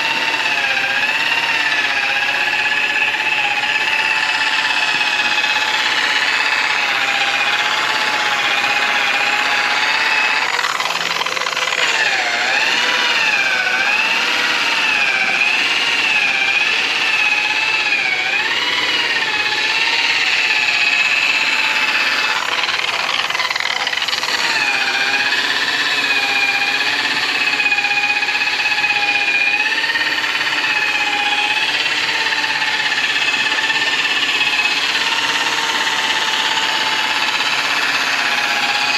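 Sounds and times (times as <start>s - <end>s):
electric polisher whining: 0.0s - 38.9s.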